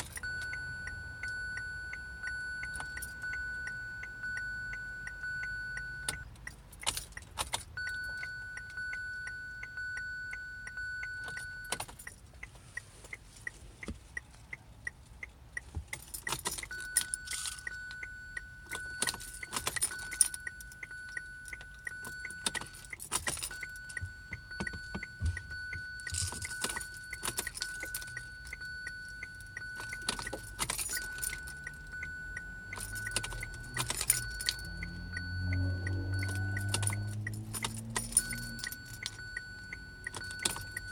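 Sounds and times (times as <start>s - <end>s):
car keys jangling: 0.0s - 40.9s.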